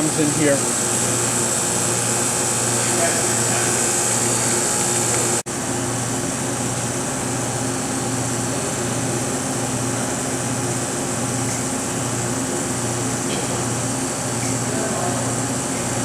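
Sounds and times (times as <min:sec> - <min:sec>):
cooling fans humming: 0:00.0 - 0:16.0.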